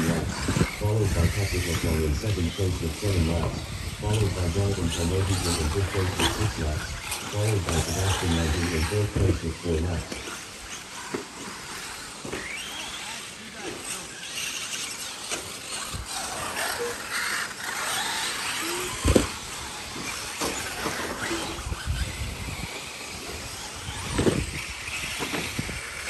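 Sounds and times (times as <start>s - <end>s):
remote control buggy motors: 0.0s - 26.0s.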